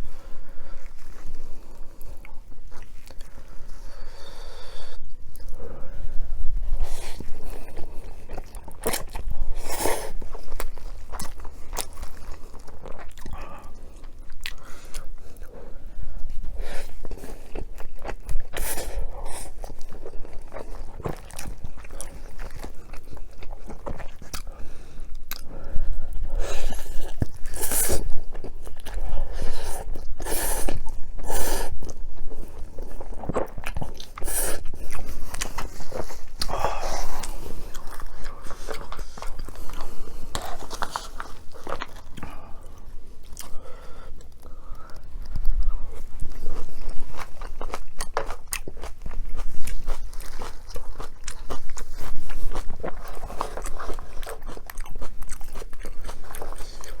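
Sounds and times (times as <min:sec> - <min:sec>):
chewing with crisp crunching: 0:00.0 - 0:57.0.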